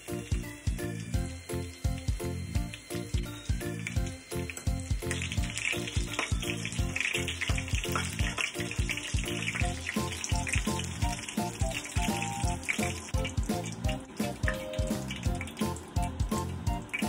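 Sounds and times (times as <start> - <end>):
background music with a beat: 0.0 - 17.0
chicken sizzling in oil: 0.0 - 17.0.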